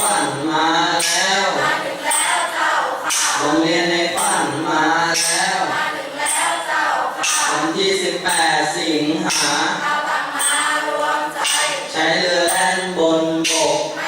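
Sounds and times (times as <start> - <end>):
group of voices chanting: 0.0 - 14.0.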